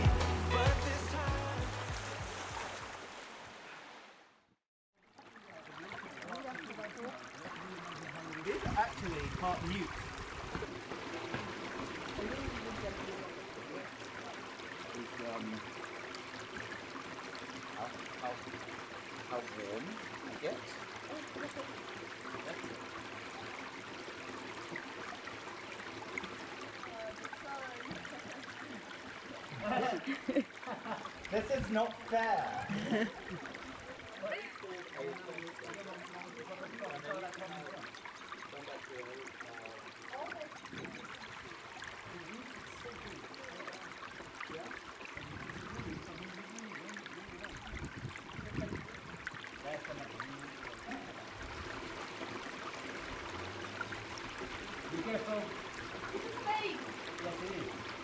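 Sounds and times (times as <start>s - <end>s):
stream flowing over rocks: 0.0s - 4.2s, 5.0s - 58.0s.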